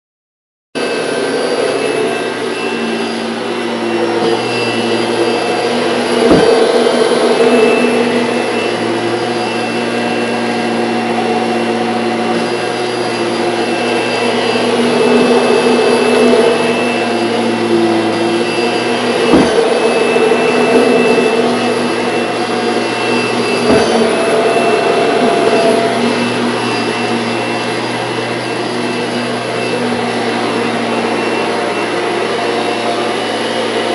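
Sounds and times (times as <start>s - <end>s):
vacuum cleaner running: 0.8s - 33.9s.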